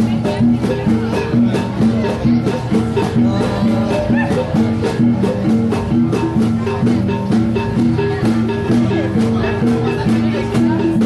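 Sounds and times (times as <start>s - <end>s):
drum rhythm: 0.0s - 11.0s.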